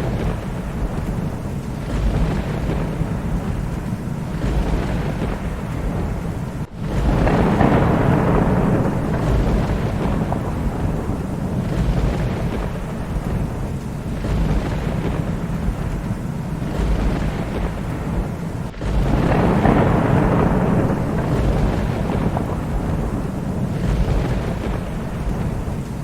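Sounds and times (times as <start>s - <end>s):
rolling thunder: 0.0s - 26.0s
steady rain: 0.0s - 26.0s.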